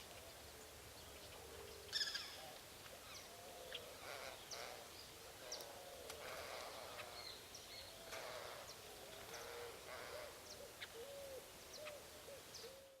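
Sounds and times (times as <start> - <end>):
low hooting bird calls: 1.2 - 13.0.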